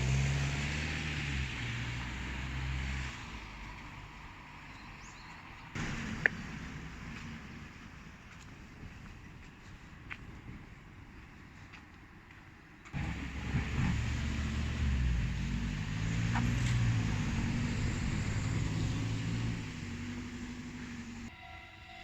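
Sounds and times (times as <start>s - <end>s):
vehicle engine running: 0.0s - 9.6s, 13.0s - 21.3s.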